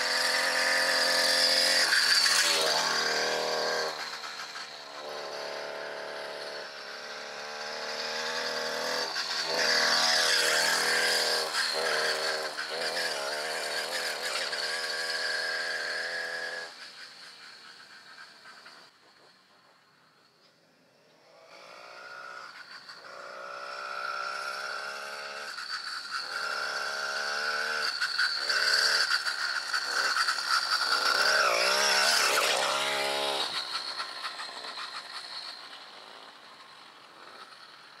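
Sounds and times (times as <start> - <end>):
small gas engine passing by: 0.0 - 38.0.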